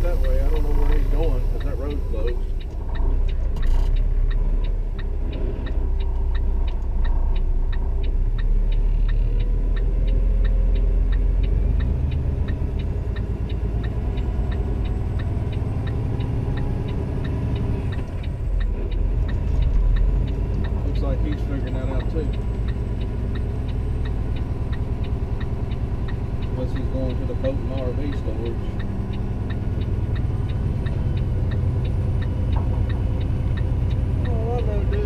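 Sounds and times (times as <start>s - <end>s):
diesel truck engine rumbling: 0.0s - 35.0s
turn signal ticking: 0.0s - 35.0s.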